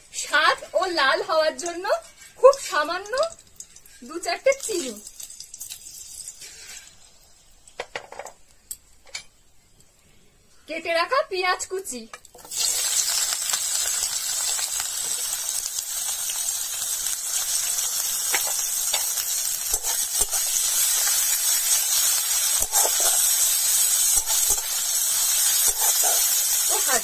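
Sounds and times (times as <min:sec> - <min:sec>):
onions sizzling in hot oil: 0:00.0 - 0:07.8, 0:10.8 - 0:27.0.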